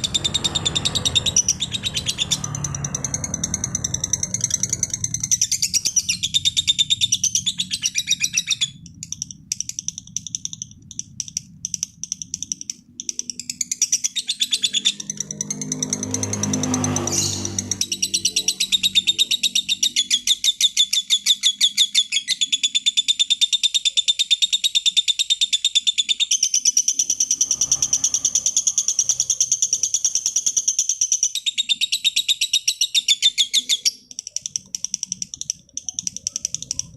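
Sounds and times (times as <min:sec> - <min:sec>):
lovebird chirping: 0:00.0 - 0:36.9.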